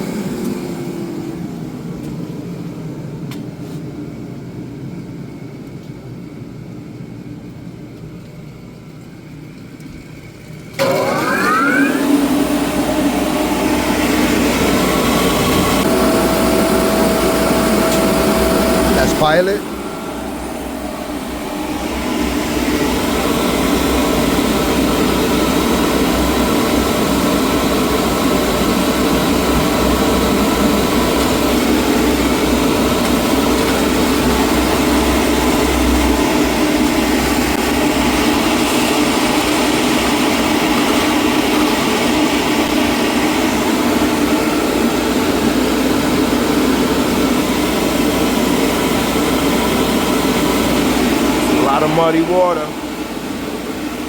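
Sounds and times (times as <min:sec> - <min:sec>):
boiler burner and blower roaring: 0:00.0 - 0:54.0.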